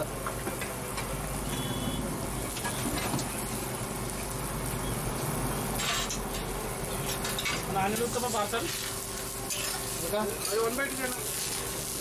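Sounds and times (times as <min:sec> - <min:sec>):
griddle hissing and humming: 0:00.0 - 0:12.0.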